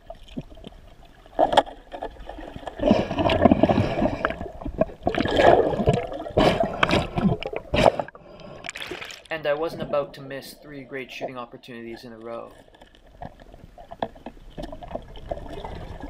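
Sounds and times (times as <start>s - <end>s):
water rushing and bubbling underwater: 0.0s - 11.8s, 12.5s - 16.0s.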